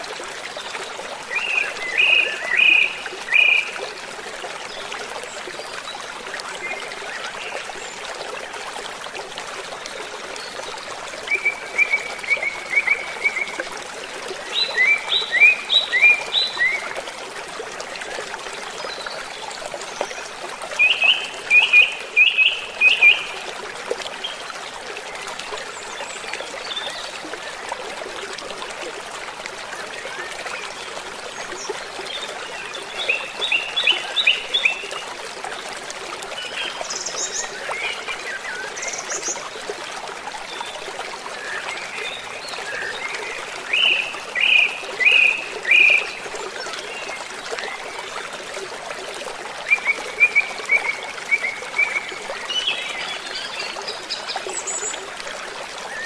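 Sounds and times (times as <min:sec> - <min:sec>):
stream rushing water: 0:00.0 - 0:56.0.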